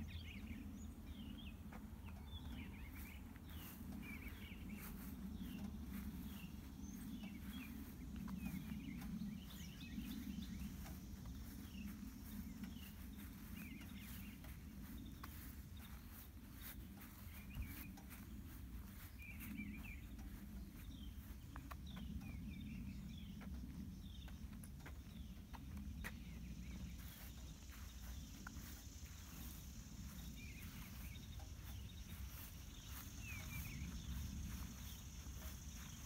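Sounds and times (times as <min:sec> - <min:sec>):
birds chirping: 0:00.0 - 0:36.0
footsteps on pavement: 0:00.0 - 0:36.0.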